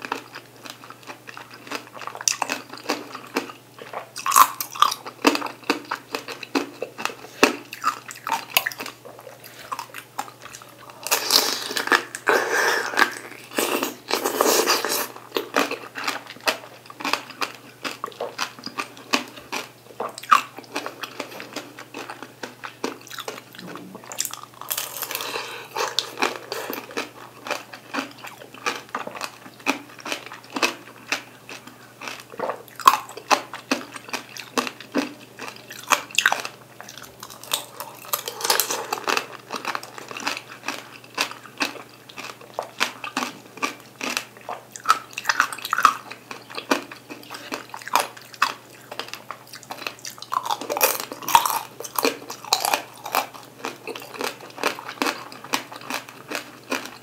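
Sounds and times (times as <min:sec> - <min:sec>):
chewing with mouth clicks: 0:00.0 - 0:57.0.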